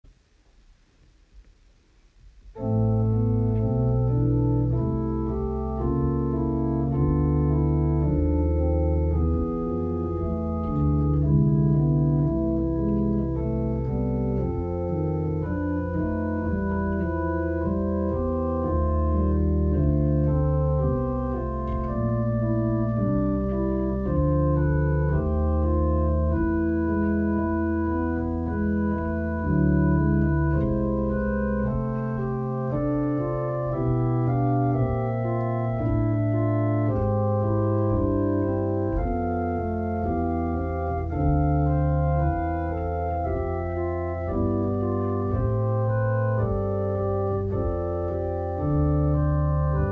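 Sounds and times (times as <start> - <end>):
organ music: 2.5 - 49.9.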